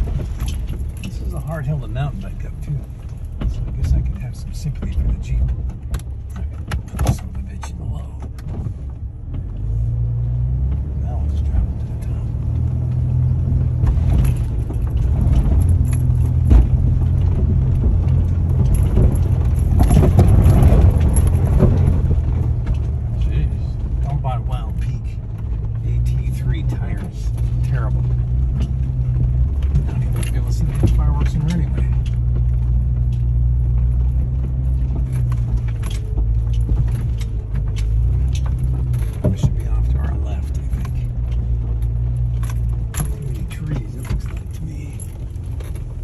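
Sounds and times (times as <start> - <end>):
clicks and rattles: 0.0 - 9.6, 10.6 - 46.0
engine pulling uphill: 0.0 - 46.0
tyres crunching over gravel: 0.0 - 46.0.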